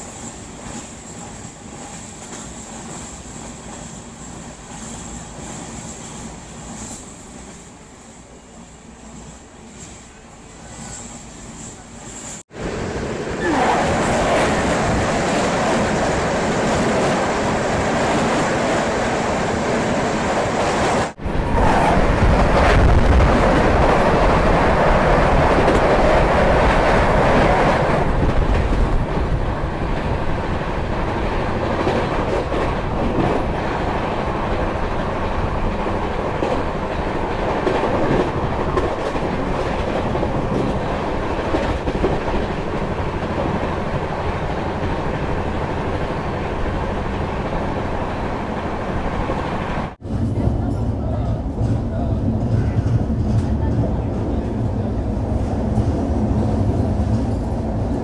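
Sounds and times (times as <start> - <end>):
passing train: 0.0 - 58.0.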